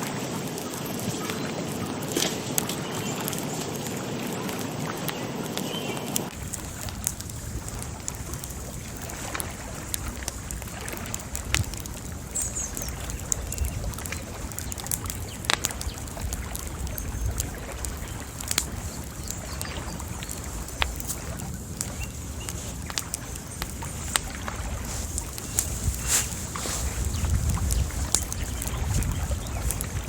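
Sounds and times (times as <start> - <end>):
bonfire crackling: 0.0 - 30.0.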